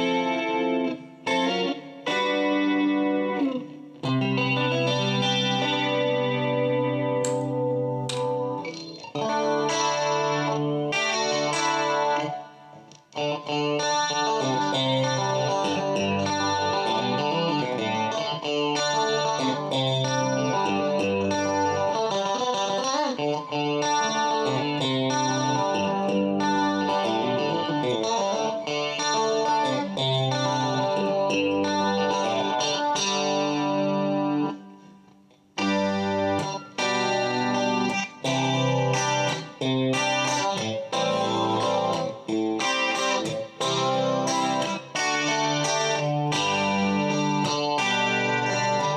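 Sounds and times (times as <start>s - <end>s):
electric guitar chords and notes: 0.0s - 48.9s.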